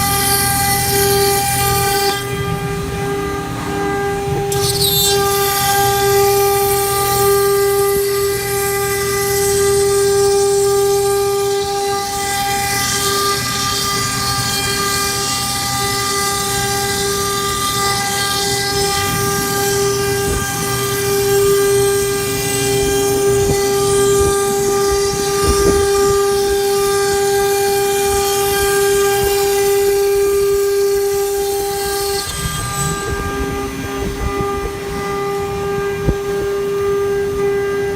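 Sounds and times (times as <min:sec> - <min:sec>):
router spindle high whine: 0:00.0 - 0:37.9.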